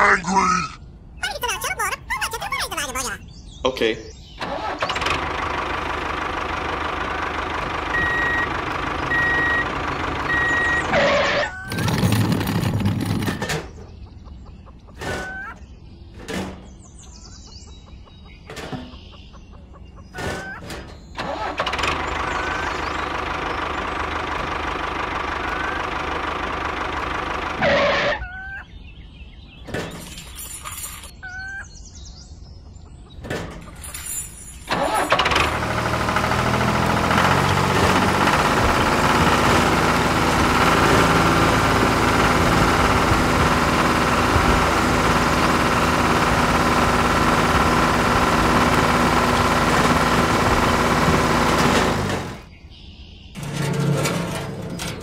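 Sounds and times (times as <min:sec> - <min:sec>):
tractor engine running: 0:04.2 - 0:28.3, 0:33.1 - 0:52.6, 0:53.4 - 0:55.0.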